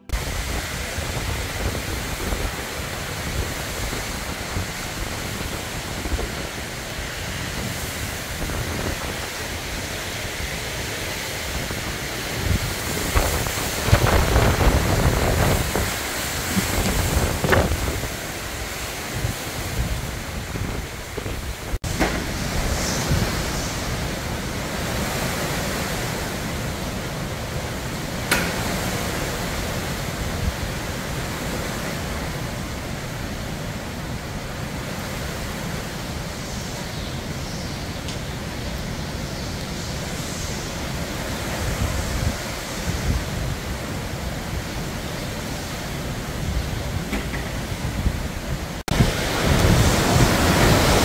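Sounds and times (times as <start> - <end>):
heavy rain: 0.0 - 51.0
strong wind: 0.0 - 51.0.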